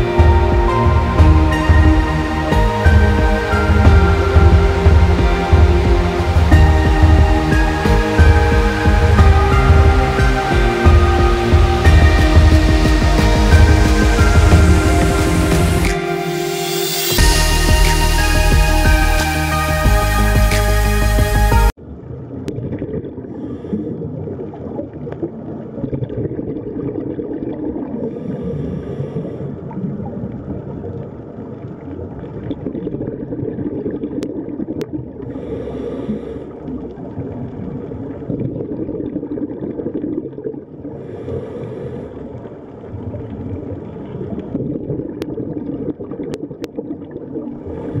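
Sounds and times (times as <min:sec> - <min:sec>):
muffled underwater rushing: 0:00.0 - 0:19.2, 0:21.8 - 0:48.0.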